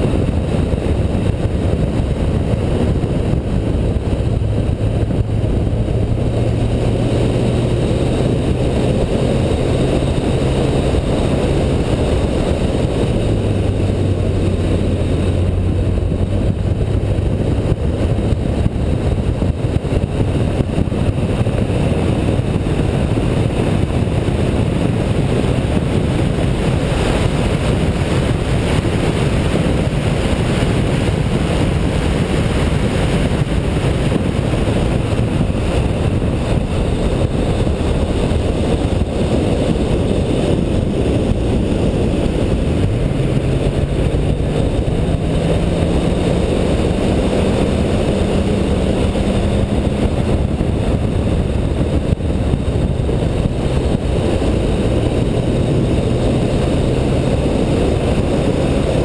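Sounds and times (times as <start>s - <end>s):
car engine running hard: 0.0s - 59.0s
wind and road noise: 0.0s - 59.0s.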